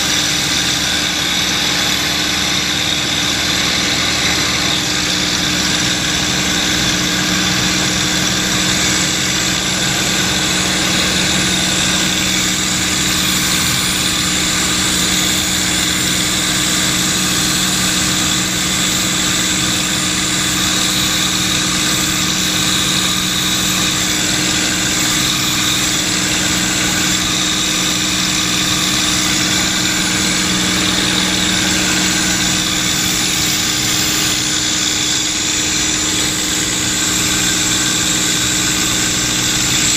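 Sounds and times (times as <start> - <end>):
aircraft engine droning: 0.0 - 39.9
propeller and airflow noise: 0.0 - 39.9.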